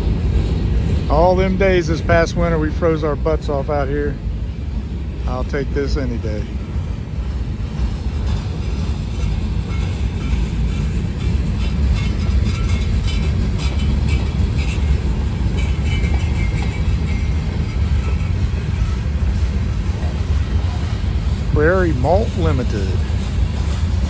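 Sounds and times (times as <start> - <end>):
freight wheels rumbling on track: 0.0 - 24.0.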